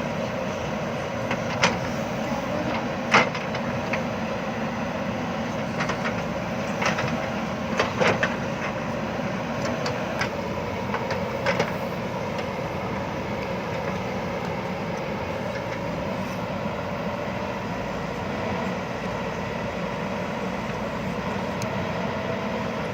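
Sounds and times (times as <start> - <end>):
backhoe diesel engine running: 0.0 - 22.9.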